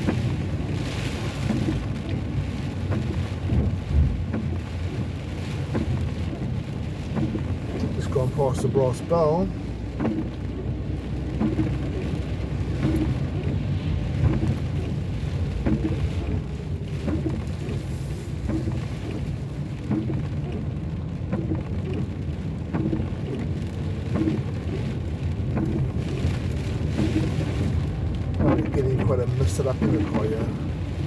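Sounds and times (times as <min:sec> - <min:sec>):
car engine and tyre rumble: 0:00.0 - 0:31.0
rain hissing on a car: 0:00.0 - 0:31.0
windscreen wipers knocking: 0:00.0 - 0:31.0.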